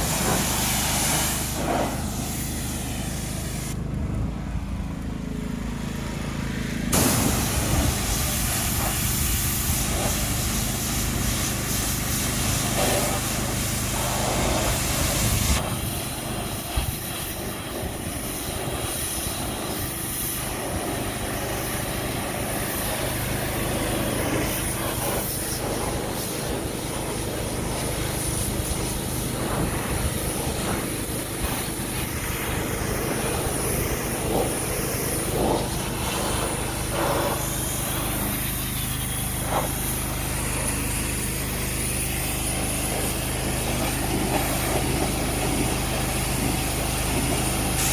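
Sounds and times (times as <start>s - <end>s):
water spray hissing: 0.0s - 3.8s, 7.0s - 47.9s
pressure washer motor hum: 0.0s - 47.9s.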